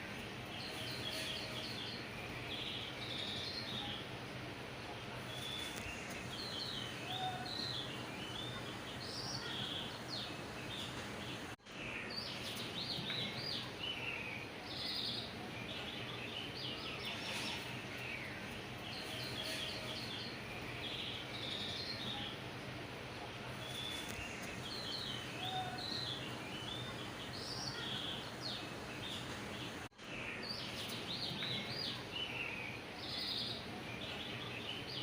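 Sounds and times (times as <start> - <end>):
small birds chirping: 0.0 - 35.0
steady background hiss: 0.0 - 35.0.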